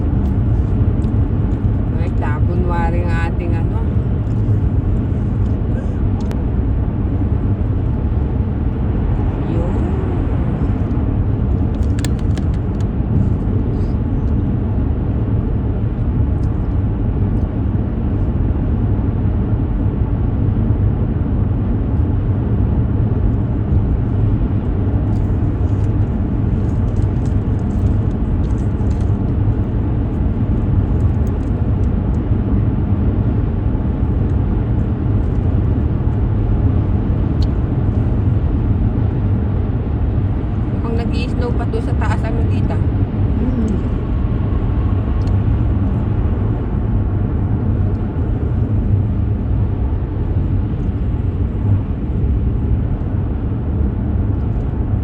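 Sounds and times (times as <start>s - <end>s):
car cabin road and engine noise: 0.0s - 55.0s.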